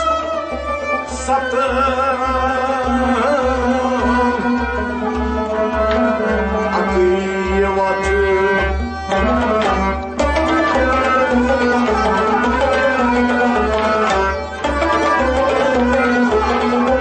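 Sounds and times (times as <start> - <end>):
hand-drum beat: 0.0 - 17.0
harmonium playing: 0.0 - 17.0.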